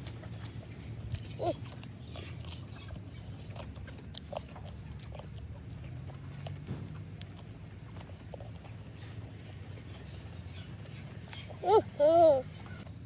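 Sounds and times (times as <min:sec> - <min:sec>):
chewing and lip-smacking: 0:00.0 - 0:13.0
steady low hum: 0:00.0 - 0:13.0.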